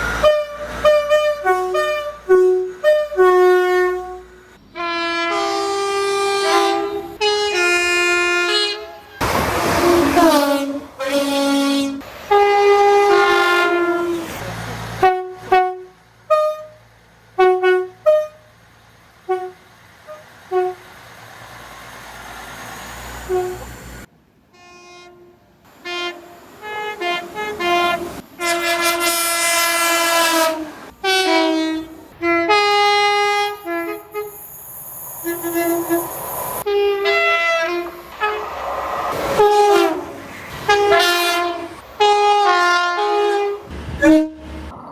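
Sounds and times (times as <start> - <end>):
train horn two-note blasts: 0.2 - 14.3, 15.0 - 16.8, 17.4 - 18.5, 19.3 - 20.9, 23.3 - 23.8, 24.5 - 34.5, 35.2 - 38.6, 39.3 - 44.6.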